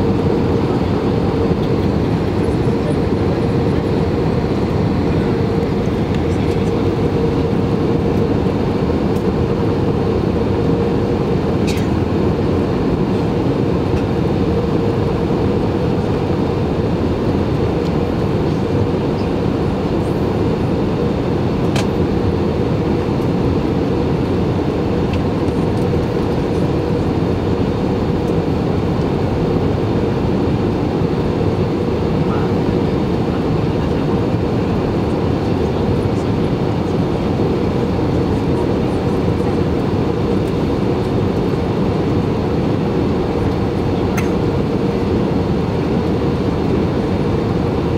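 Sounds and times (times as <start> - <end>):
airplane cabin roar: 0.0 - 47.9
mid-pitched hum: 0.0 - 47.9.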